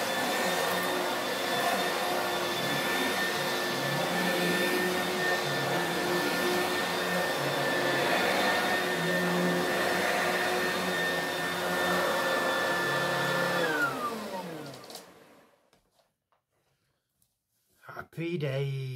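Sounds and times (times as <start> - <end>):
vacuum cleaner running: 0.0 - 15.6.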